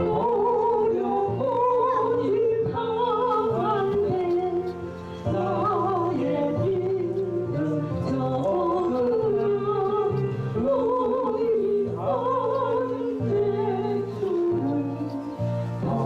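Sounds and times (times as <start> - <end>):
backing track of sustained chords: 0.0 - 16.0
person singing a hymn with vibrato: 0.0 - 16.0.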